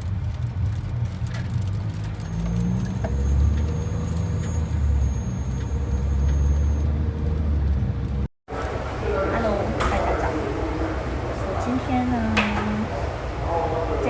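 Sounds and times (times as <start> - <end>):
vehicle rumbling on the move: 0.0 - 14.0.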